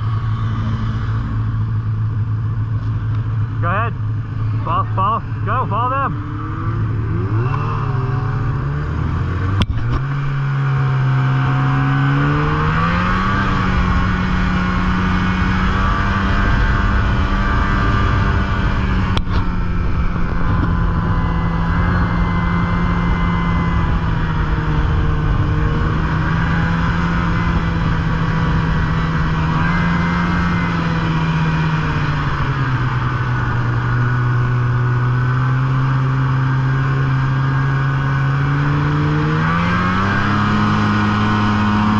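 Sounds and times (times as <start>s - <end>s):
snowmobile engine accelerating: 0.0s - 41.9s.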